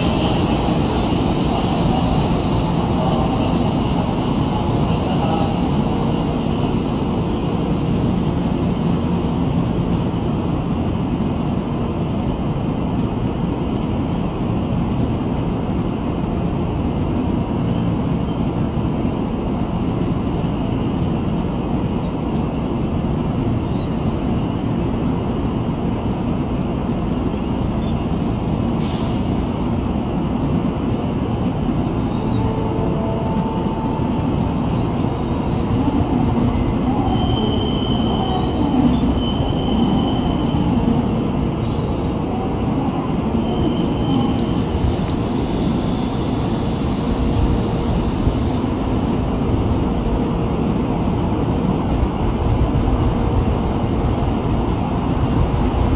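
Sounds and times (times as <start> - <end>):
train rumbling: 0.0 - 55.9.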